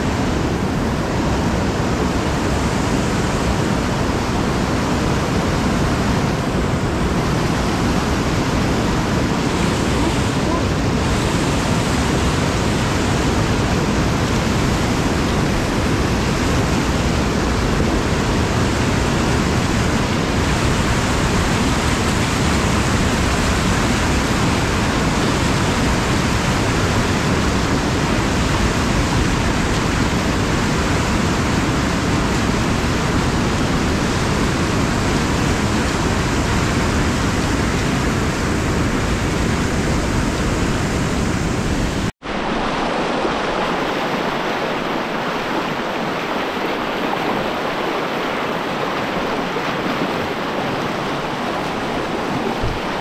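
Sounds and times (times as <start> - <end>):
whitewater rushing: 0.0 - 53.0.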